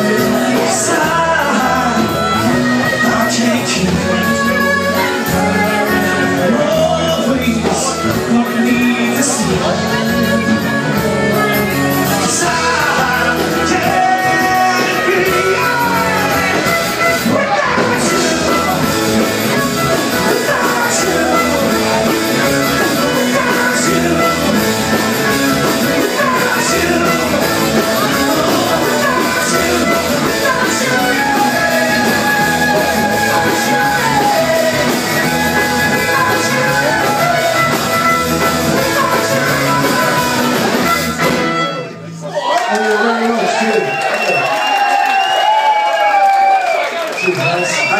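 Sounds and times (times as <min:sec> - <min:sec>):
person singing: 0:00.0 - 0:41.6
live rock band playing: 0:00.0 - 0:42.3.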